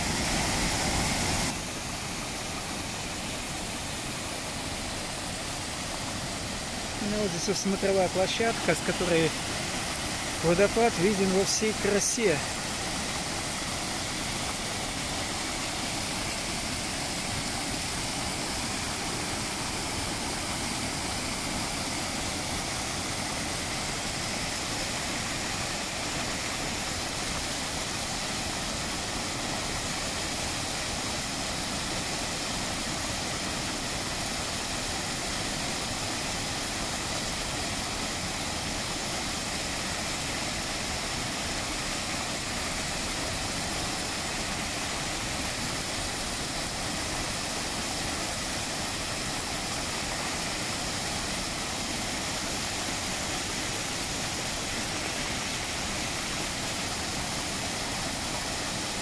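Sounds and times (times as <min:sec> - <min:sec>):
waterfall rushing over rock: 0:00.0 - 0:59.0.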